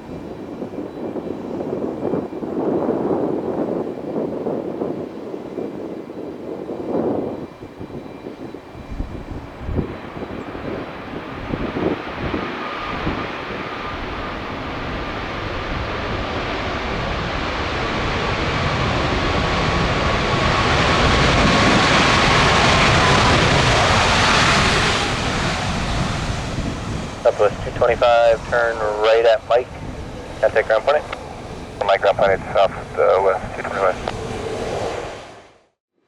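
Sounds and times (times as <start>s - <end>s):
wind buffeting microphone: 0.0s - 35.5s
jet engines whining: 0.0s - 35.8s.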